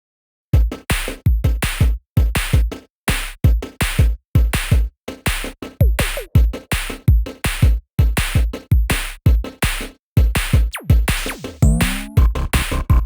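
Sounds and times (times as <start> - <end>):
deep pitch-dropping kick drums: 0.6 - 13.0
electronic music with drum-machine beat: 0.6 - 13.0.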